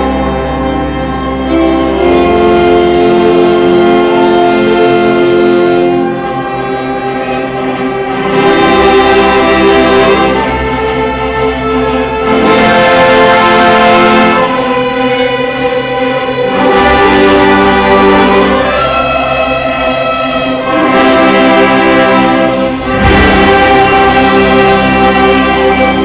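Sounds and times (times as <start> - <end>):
orchestra and band playing chords: 0.0 - 26.0.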